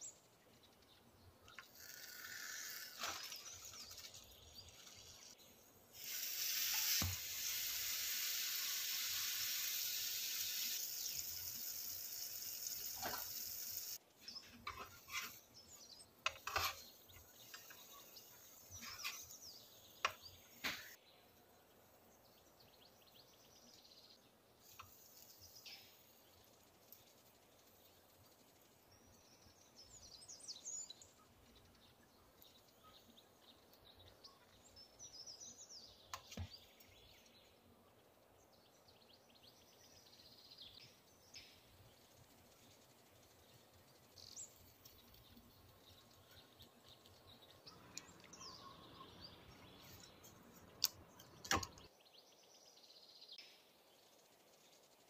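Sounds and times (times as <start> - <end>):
faint high bird chirps: 0.0 - 55.0.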